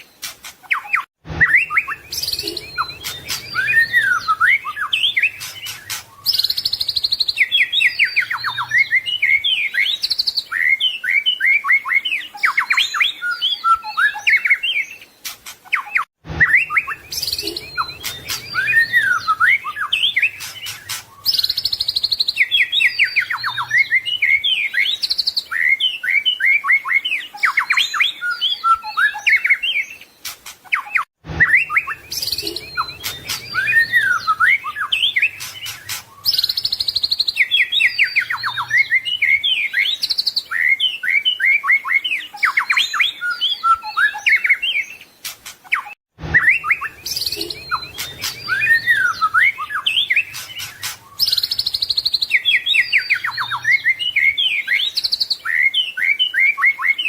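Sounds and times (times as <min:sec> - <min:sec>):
bird singing varied song: 0:00.0 - 0:57.0.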